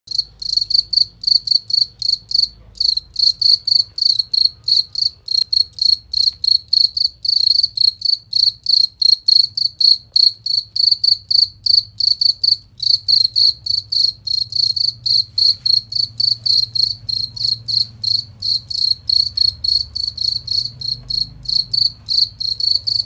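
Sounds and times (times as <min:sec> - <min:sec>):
cricket chirping: 0:00.1 - 0:23.0.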